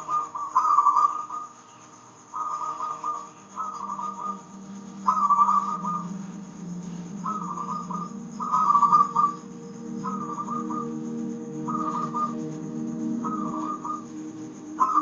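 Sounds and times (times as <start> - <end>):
dove cooing: 0.0 - 1.5, 2.3 - 15.0
soft instrumental drone: 0.0 - 15.0.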